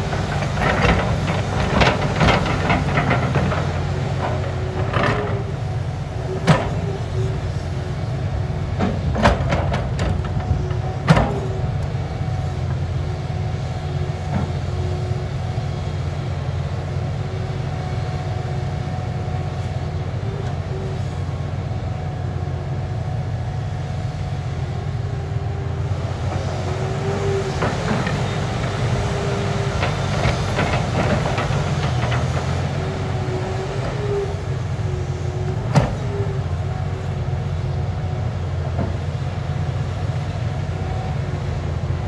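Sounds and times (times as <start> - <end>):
hydraulic whine: 0.0 - 41.9
excavator diesel engine running: 0.0 - 42.0.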